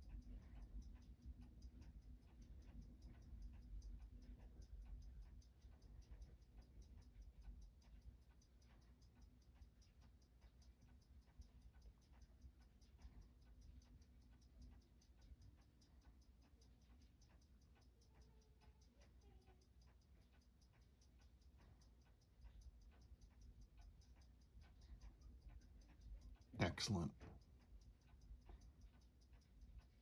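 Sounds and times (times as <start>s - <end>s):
watch ticking: 0.0s - 30.0s.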